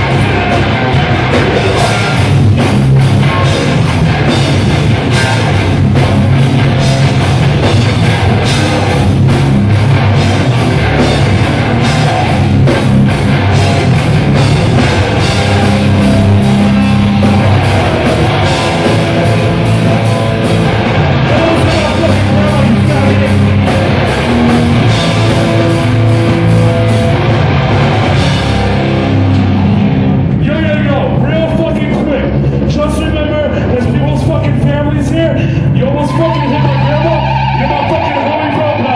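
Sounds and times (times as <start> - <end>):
bass guitar: 0.0 - 38.9
distorted electric guitars: 0.0 - 38.9
drum kit hit fast: 0.0 - 38.9.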